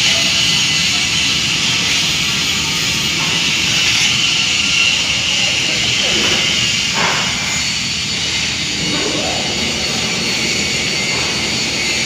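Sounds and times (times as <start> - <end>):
furnace rushing roar: 0.0 - 12.0.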